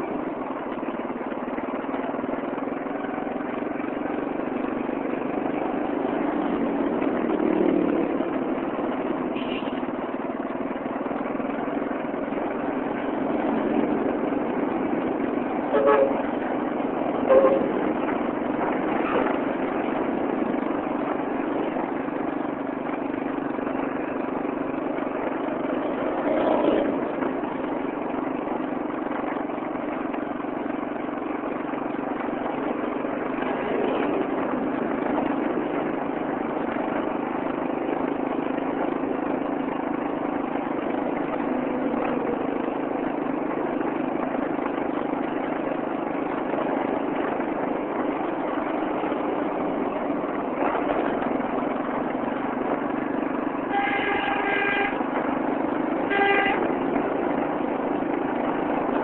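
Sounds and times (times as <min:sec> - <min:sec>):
constant low hum: 0:00.0 - 0:59.0
vehicle engine and road noise: 0:00.0 - 0:59.0.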